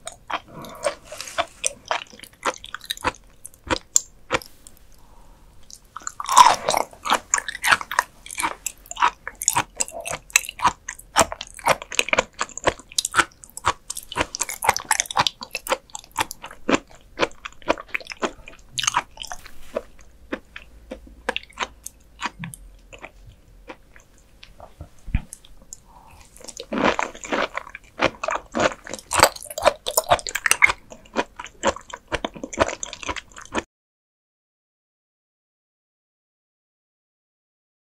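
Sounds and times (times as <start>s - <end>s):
wet chewing with mouth clicks: 0.0s - 4.9s, 5.6s - 33.6s.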